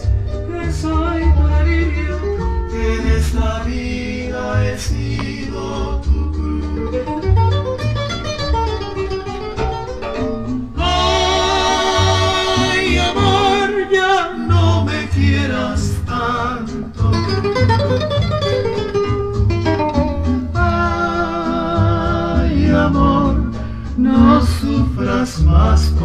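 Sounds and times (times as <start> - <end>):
romantic song with guitar and bass: 0.0 - 26.0.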